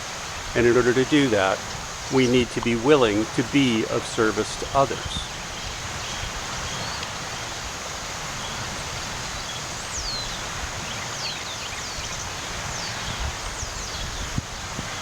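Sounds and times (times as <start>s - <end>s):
water rushing along shore: 0.0s - 15.0s
bird chirping: 0.6s - 7.6s, 8.4s - 14.4s.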